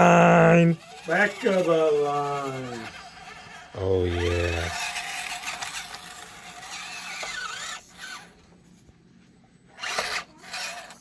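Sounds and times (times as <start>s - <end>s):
small electric motors whining: 0.0s - 8.6s, 9.7s - 11.0s.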